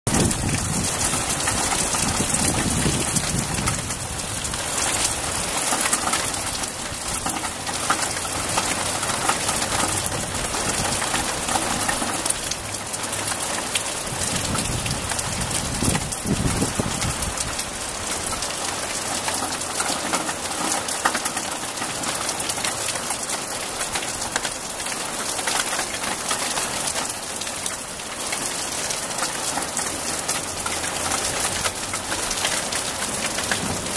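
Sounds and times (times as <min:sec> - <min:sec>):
rain falling on trees and roofs: 0:00.1 - 0:33.9.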